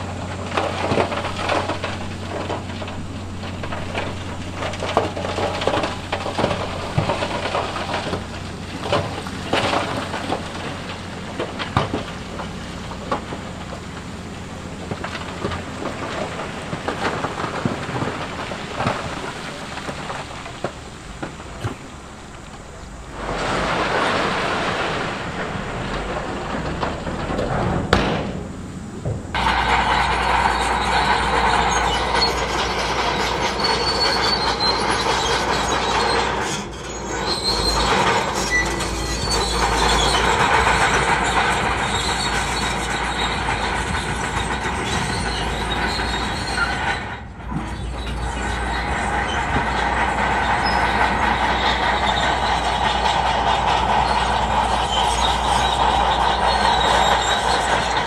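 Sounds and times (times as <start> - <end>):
diesel engine of heavy machinery: 0.0 - 58.0
steel squealing and clanking: 0.0 - 58.0.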